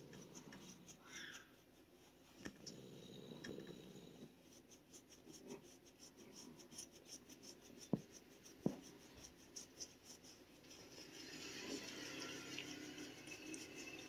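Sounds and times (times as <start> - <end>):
glove rubbing cat fur: 0.0 - 14.0.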